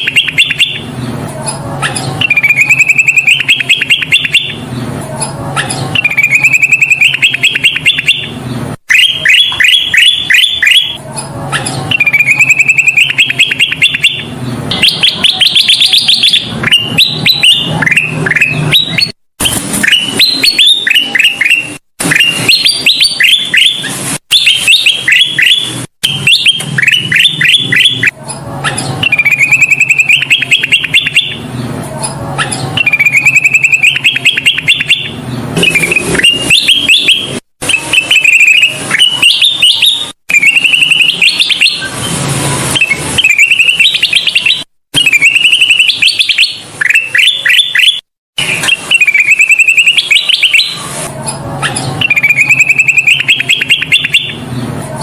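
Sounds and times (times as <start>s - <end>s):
bulbul singing rapid chirps: 0.0s - 42.0s, 42.8s - 50.9s, 51.6s - 54.5s.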